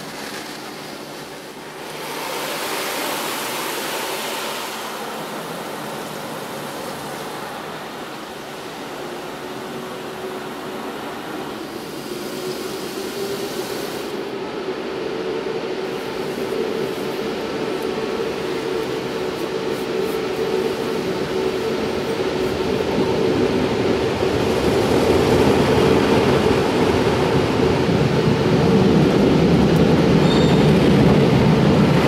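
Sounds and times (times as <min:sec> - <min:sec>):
car wash water jets spraying: 0:00.0 - 0:14.8, 0:15.8 - 0:30.2.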